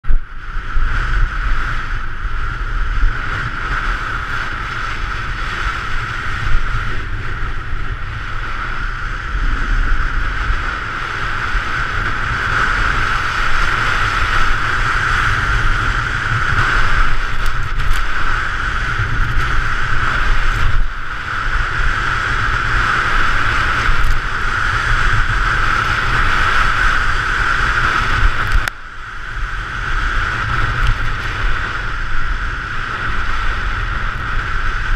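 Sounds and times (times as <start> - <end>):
wind rushing over microphone: 0.0 - 34.9
skis scraping on packed snow: 1.0 - 28.7, 29.6 - 34.9.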